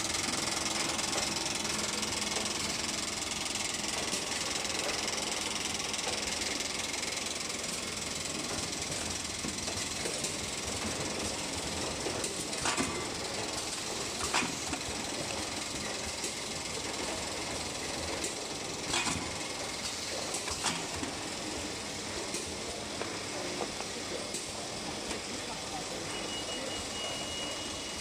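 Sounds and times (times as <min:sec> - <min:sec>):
machine running with hiss: 0:00.0 - 0:28.0.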